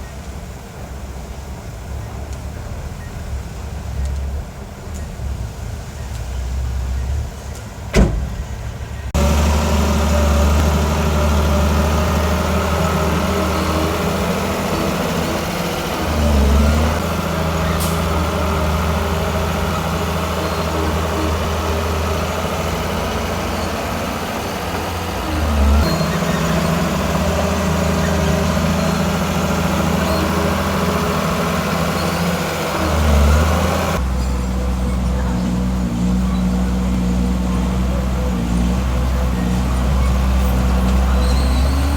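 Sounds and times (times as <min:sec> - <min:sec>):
bulldozer diesel engine: 0:00.0 - 0:41.9.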